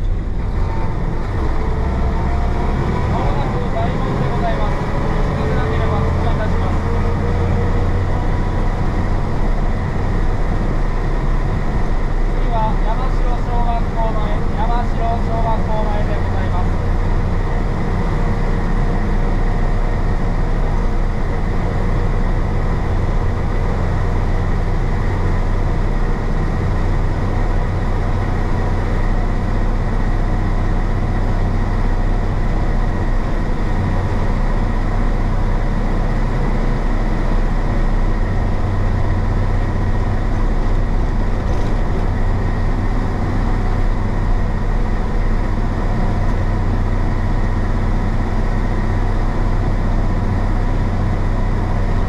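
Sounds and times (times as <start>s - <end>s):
bus diesel engine humming: 0.0s - 52.0s.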